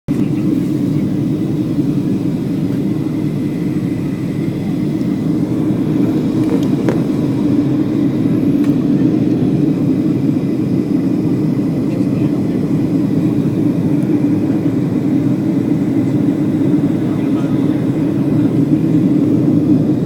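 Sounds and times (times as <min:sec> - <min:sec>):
airplane cabin roar: 0:00.1 - 0:20.0.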